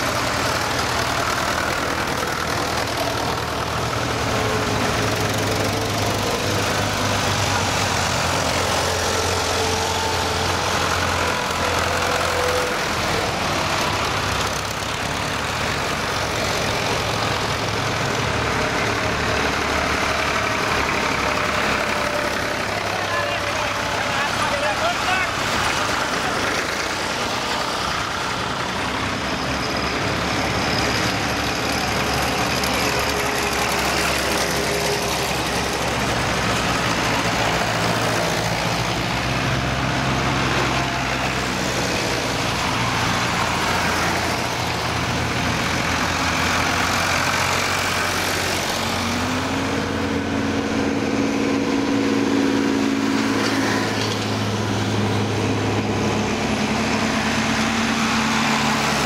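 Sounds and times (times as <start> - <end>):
tractor engines passing: 0.0 - 59.0.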